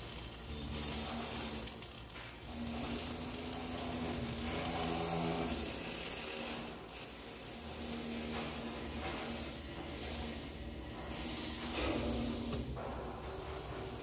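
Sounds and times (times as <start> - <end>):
welding arc hissing and crackling: 0.0 - 14.0.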